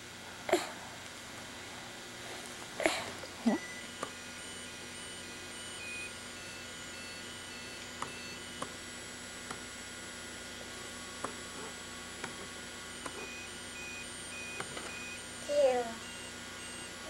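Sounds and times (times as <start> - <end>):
electrical hum and hiss: 0.0 - 17.0.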